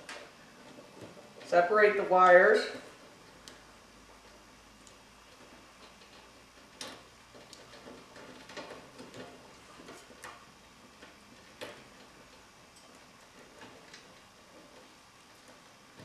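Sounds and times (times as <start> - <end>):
small clicks and light knocks: 3.0 - 16.0.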